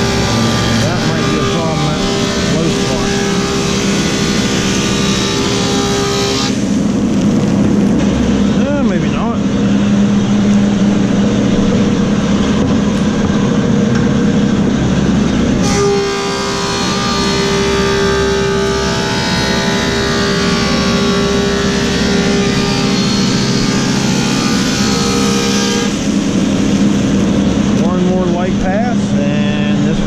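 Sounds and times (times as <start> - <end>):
planer cutting wood whine: 0.0 - 30.0
planer machine humming: 0.0 - 30.0.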